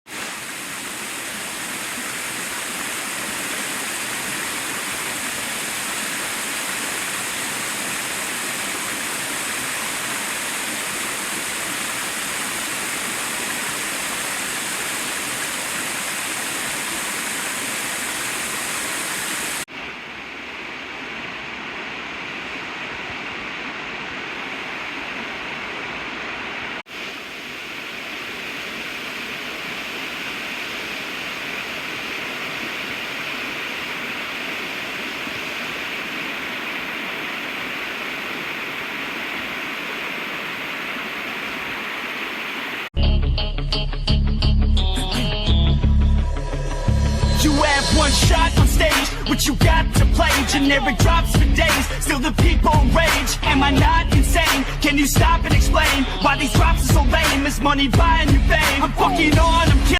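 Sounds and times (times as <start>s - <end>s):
waterfall rushing: 0.1s - 42.9s, 47.3s - 59.9s.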